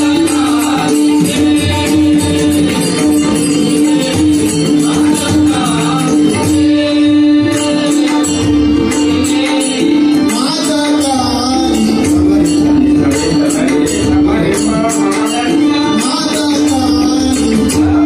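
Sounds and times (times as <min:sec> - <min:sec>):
drum beats: 0:00.0 - 0:18.0
harmonium note: 0:00.0 - 0:18.0
man singing: 0:00.0 - 0:18.0.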